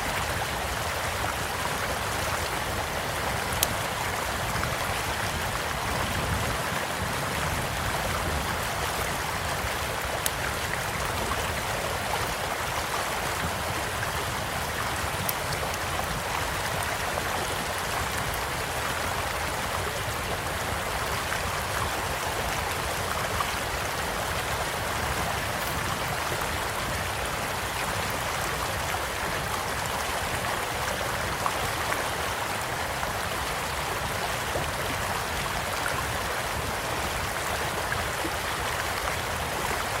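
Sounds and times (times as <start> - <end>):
small stream flowing: 0.0 - 40.0.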